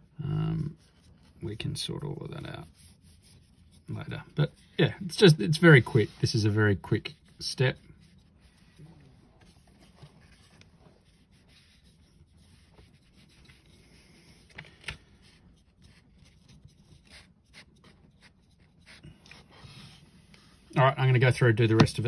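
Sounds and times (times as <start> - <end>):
paintbrush scratchy rubbing: 0.0 - 14.5, 15.2 - 20.8.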